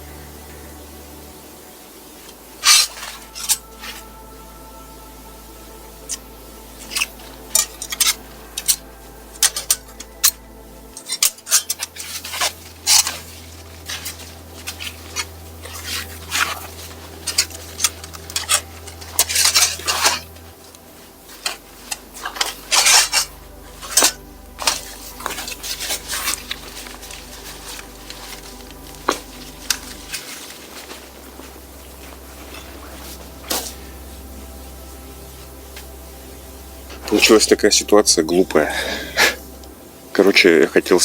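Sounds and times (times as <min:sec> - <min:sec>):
rustling: 0:00.0 - 0:41.0.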